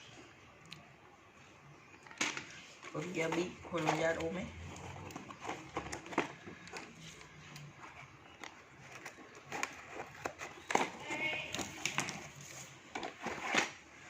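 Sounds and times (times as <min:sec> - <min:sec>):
packaging rustling: 0:02.1 - 0:14.0.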